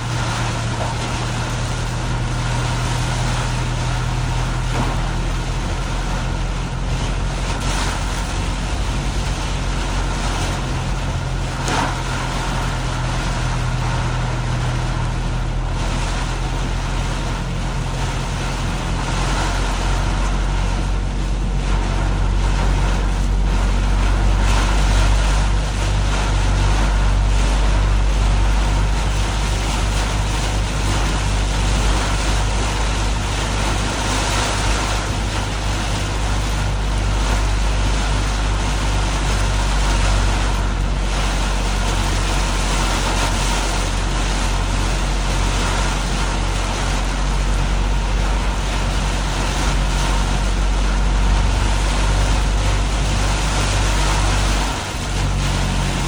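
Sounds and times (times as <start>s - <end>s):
rain and water spray hiss: 0.0s - 56.0s
vehicle engine and tyre rumble: 0.0s - 56.0s.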